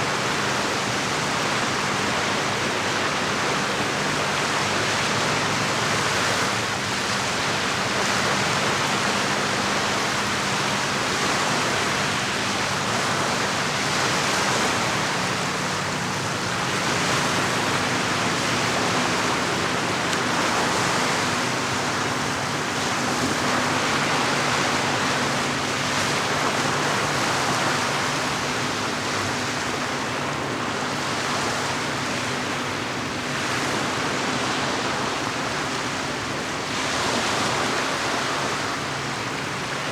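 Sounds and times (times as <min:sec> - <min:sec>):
lake water washing at shore: 0:00.0 - 0:39.9.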